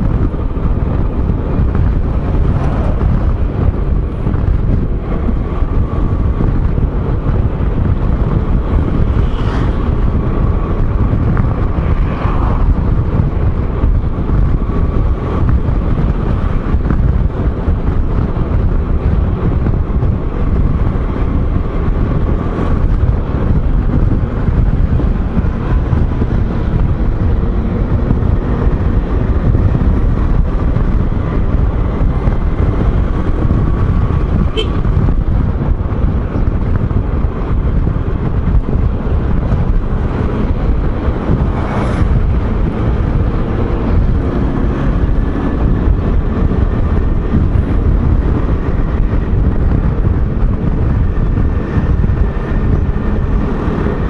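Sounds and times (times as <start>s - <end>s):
road noise: 0.0s - 54.0s
wind rush on microphone: 0.0s - 54.0s.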